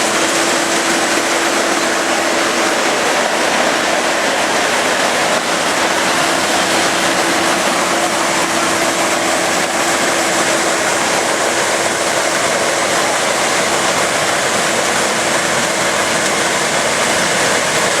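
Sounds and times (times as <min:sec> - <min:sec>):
rice reaper machine running: 0:00.0 - 0:18.0.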